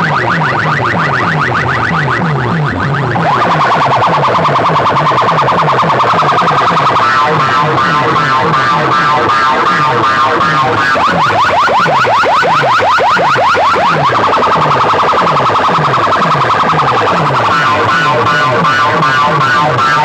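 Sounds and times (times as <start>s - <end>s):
electronic track with siren effects: 0.0s - 20.0s
falling bass sweep: 0.0s - 20.0s.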